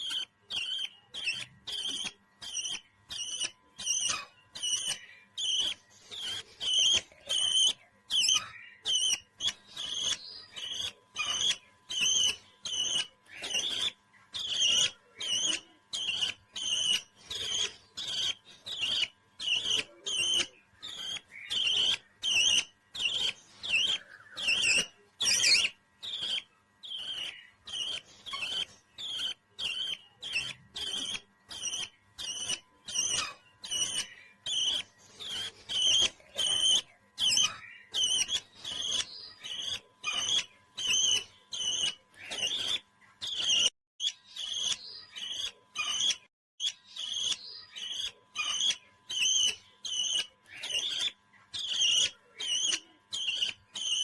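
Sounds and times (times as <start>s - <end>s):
parrot chirping: 0.0s - 54.0s.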